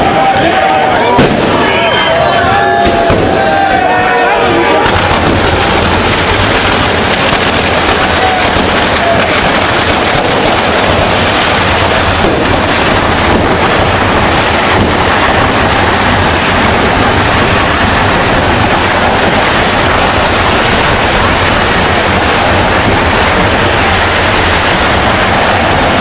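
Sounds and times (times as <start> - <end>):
fireworks and firecrackers exploding: 0.0 - 26.0.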